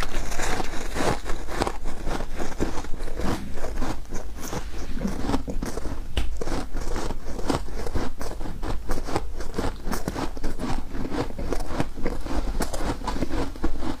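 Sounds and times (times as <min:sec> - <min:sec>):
frosty ice crunching: 0:00.0 - 0:14.0.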